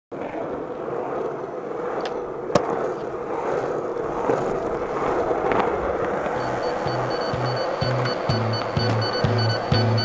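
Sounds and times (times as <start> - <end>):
skateboard clack: 0.1 - 10.0
skateboard wheels rolling on concrete: 0.1 - 10.0.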